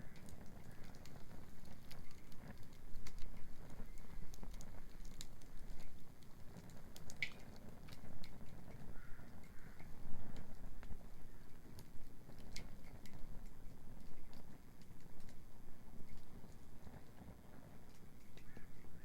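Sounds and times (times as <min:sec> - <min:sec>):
bonfire crackling: 0:00.0 - 0:19.0
fire low rumble: 0:00.0 - 0:19.0.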